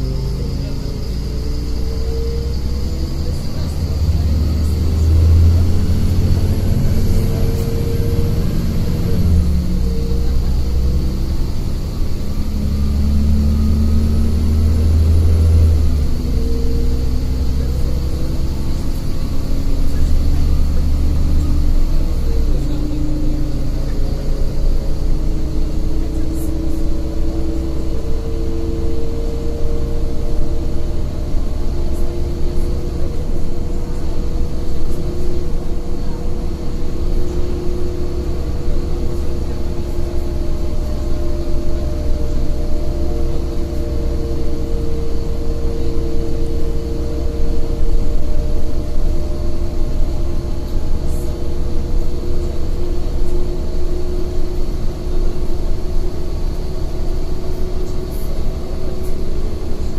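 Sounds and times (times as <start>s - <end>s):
bus engine: 0.0s - 59.9s
road rumble: 0.0s - 59.9s.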